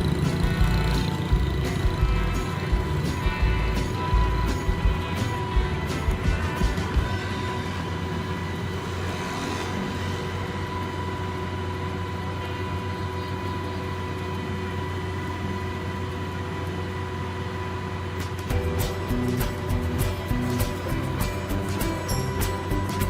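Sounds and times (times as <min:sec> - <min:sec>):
diesel truck engine running: 0:00.0 - 0:23.0
high whine: 0:00.0 - 0:23.0.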